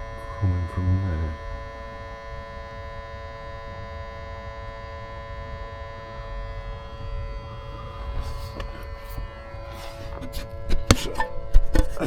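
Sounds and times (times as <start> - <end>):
electric pump buzzing hum: 0.0 - 12.0.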